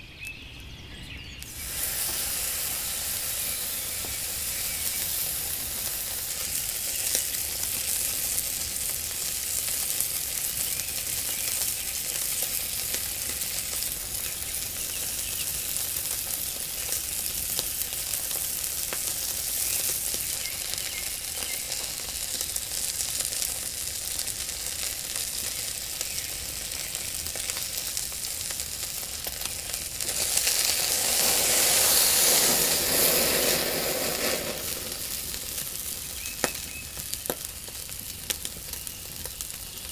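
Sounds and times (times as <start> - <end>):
steak sizzling on grill: 1.4 - 39.9.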